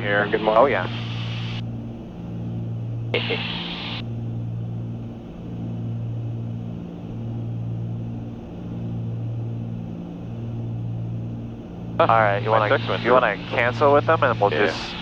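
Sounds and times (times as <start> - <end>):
twin propeller engines droning: 0.0 - 15.0.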